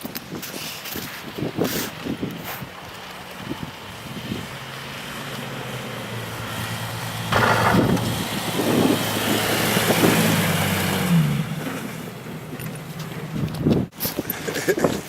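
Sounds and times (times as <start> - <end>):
rush of tyre noise: 0.0 - 15.0
vehicle engine hum: 0.6 - 14.6.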